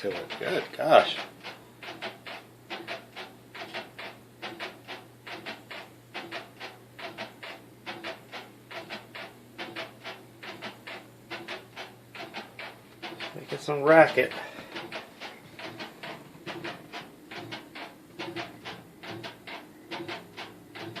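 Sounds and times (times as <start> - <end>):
washing machine squeaking: 0.0 - 21.0.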